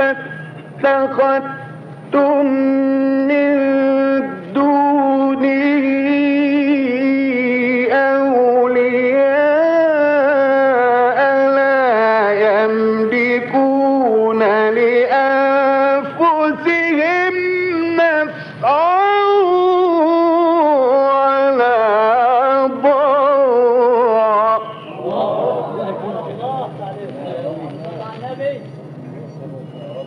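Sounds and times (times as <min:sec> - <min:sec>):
man chanting melodically: 0:00.0 - 0:28.7.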